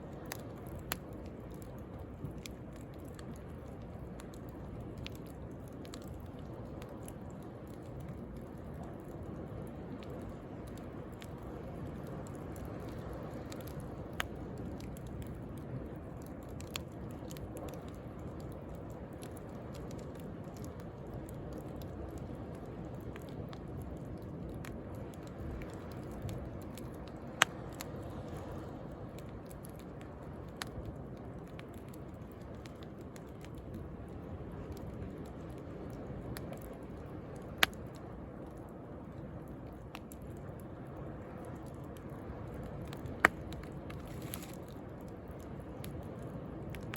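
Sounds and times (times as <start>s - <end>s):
bonfire crackling and popping: 0.0s - 46.9s.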